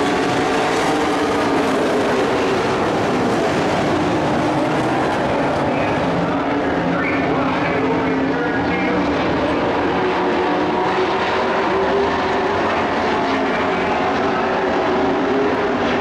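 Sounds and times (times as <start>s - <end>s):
truck engines racing at high revs: 0.0s - 16.0s.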